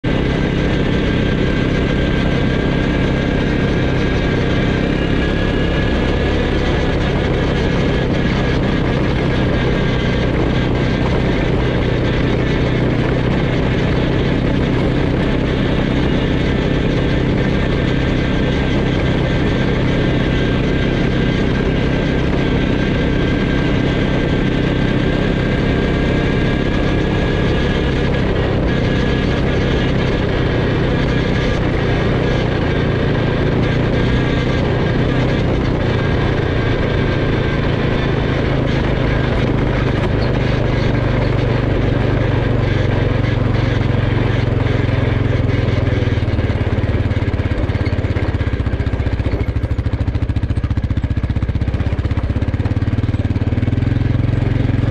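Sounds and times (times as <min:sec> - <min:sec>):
quad bike engine running: 0:00.0 - 0:54.9
steady rushing noise: 0:00.0 - 0:54.9.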